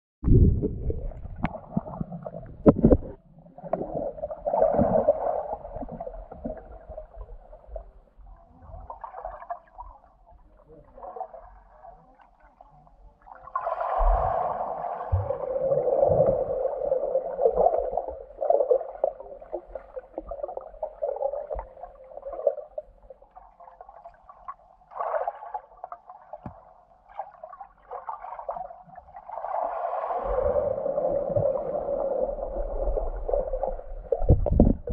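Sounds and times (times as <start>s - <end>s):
underwater churning and bubbles: 0.2s - 34.9s.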